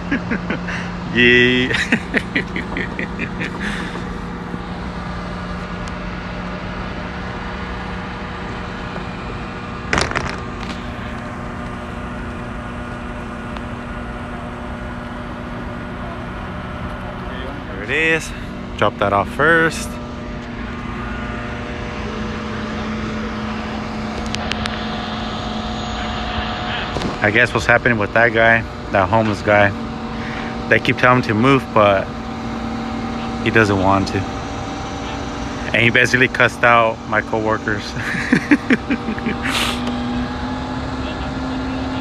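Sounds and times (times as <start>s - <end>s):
truck engine droning hum: 0.0s - 42.0s.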